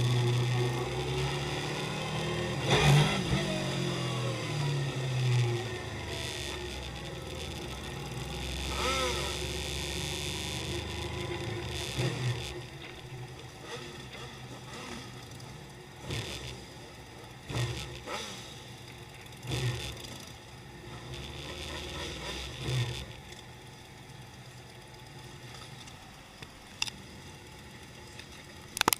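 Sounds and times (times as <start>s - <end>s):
motorcycles passing by: 0.0s - 26.2s
motorcycle engines revving: 0.0s - 28.0s.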